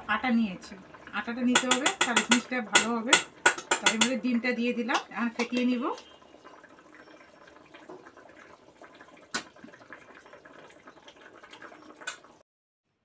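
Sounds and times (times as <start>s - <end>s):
oil crackling and sizzling: 0.0s - 12.4s.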